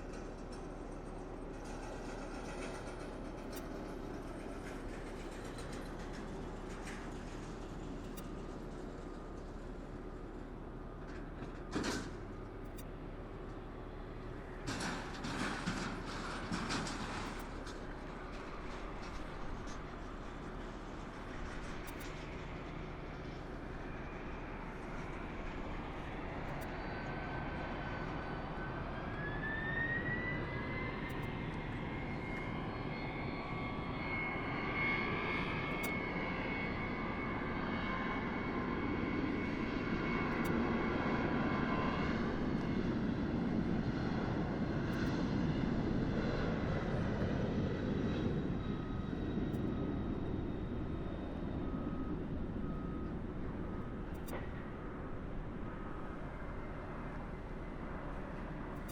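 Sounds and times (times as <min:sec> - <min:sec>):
jet engine rumble: 0:00.0 - 0:58.9
jet engine whine: 0:00.0 - 0:58.9.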